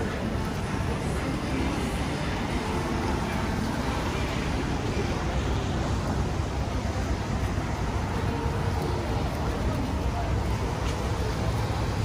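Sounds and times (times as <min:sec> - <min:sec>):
traffic on wet road: 0:00.0 - 0:12.0.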